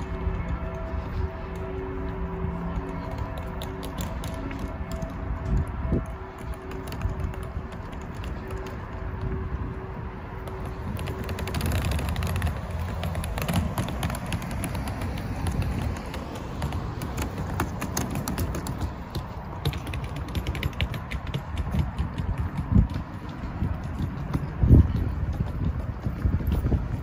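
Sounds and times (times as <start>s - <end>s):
low street rumble: 0.0s - 27.0s.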